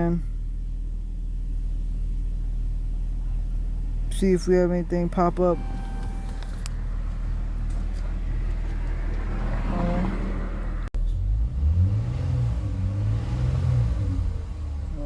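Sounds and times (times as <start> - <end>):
car engine humming and revving: 0.0 - 15.0.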